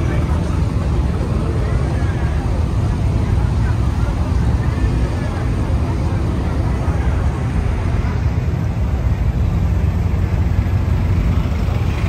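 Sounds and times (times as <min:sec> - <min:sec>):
slow car engines rumbling: 0:00.0 - 0:12.0.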